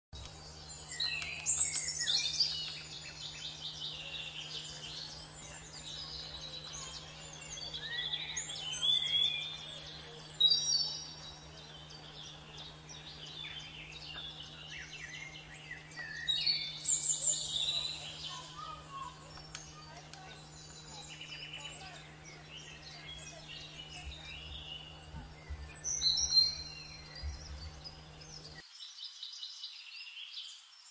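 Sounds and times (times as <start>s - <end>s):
steady low hum: 0.2s - 28.6s
songbirds singing: 0.2s - 30.9s.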